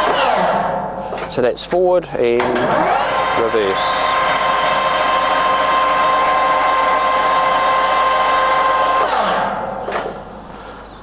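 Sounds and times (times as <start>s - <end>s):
lathe whining and running down: 0.0s - 1.3s, 2.4s - 10.3s.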